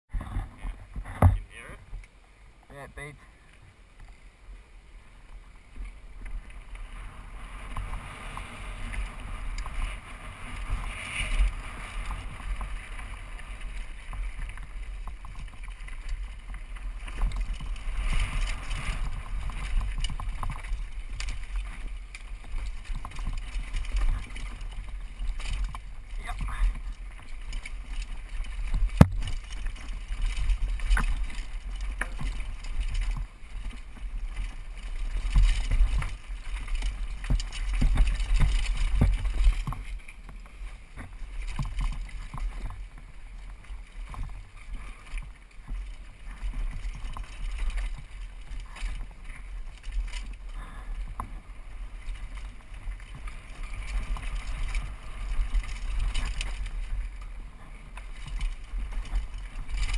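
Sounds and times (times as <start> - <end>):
bike rattling over rocks: 0.1 - 2.2, 3.0 - 59.9.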